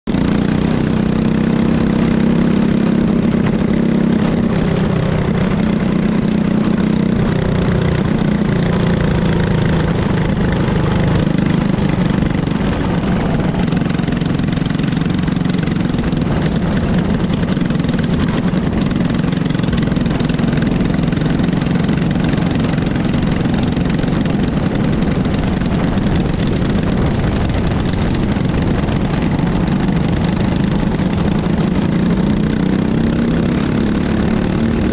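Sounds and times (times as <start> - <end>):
kart engine running: 0.1 - 34.9.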